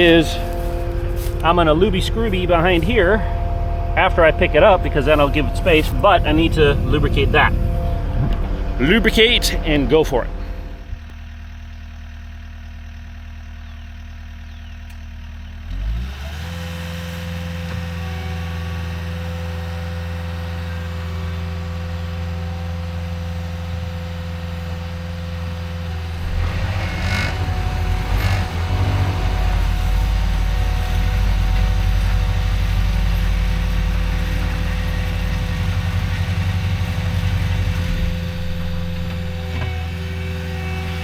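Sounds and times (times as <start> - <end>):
dense rattle: 0.0 - 13.0, 20.5 - 41.0
diesel engine revving: 0.0 - 41.0.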